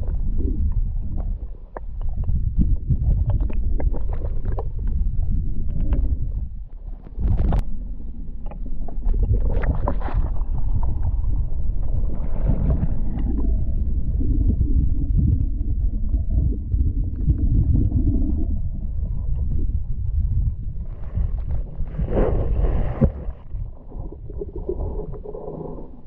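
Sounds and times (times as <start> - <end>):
underwater rumble of water: 0.0 - 26.0.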